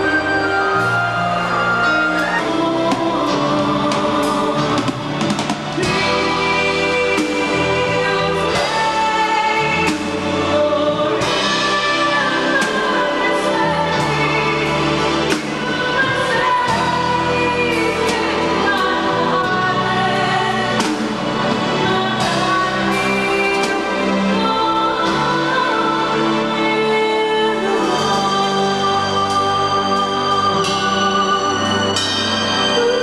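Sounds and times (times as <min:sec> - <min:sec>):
woman singing: 0:00.0 - 0:05.1, 0:05.8 - 0:33.0
live band playing: 0:00.0 - 0:33.0.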